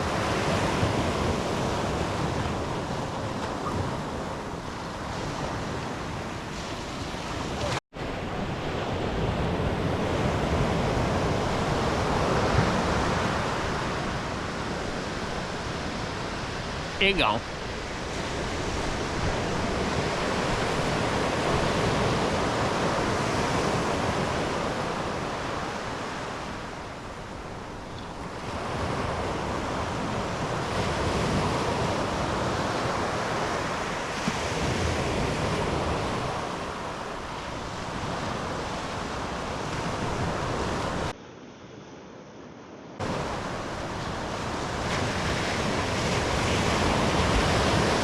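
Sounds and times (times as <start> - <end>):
wind buffeting microphone: 0.0 - 41.1, 43.0 - 48.0
ocean surf breaking: 0.0 - 41.2, 43.0 - 48.0.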